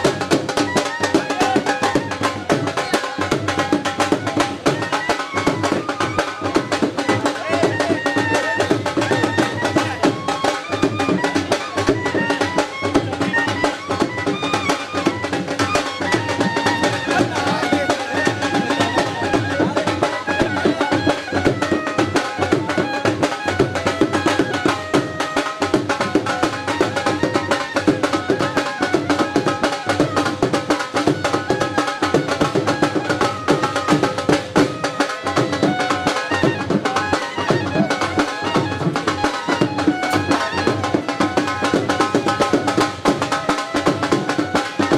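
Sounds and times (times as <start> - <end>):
dhol drums beating: 0.0 - 44.9
melody over drums: 0.0 - 44.9.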